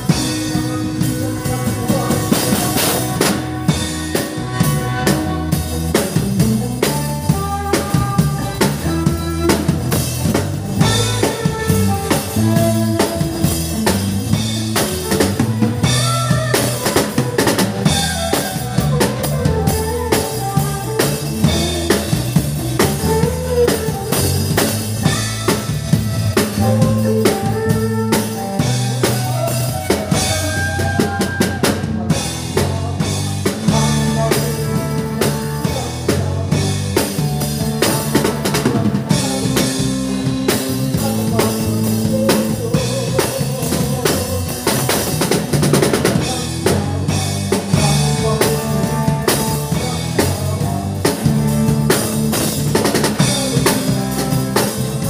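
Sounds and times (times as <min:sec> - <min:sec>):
bass guitar notes: 0:00.0 - 0:55.0
drum kit steady beat: 0:00.0 - 0:55.0.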